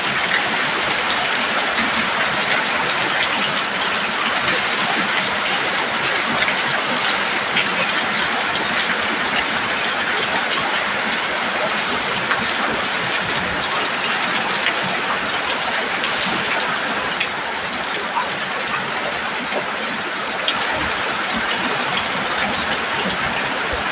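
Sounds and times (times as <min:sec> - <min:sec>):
heavy rain on a roof: 0:00.0 - 0:23.9.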